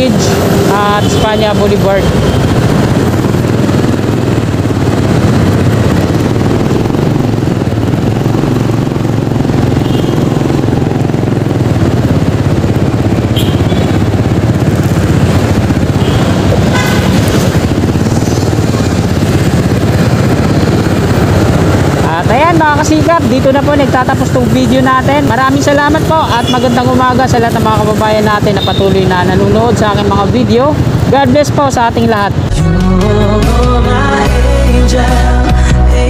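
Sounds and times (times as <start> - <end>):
motorcycle engine running: 0.0 - 36.0
passing street traffic: 0.0 - 36.0.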